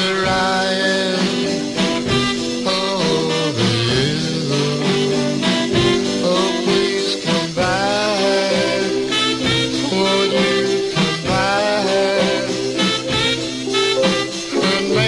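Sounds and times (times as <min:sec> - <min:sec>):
band playing swing rhythm: 0:00.0 - 0:15.0.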